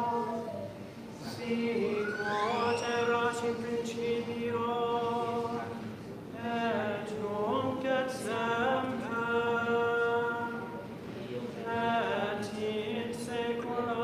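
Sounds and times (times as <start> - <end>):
voices singing plainchant: 0.0 - 14.0.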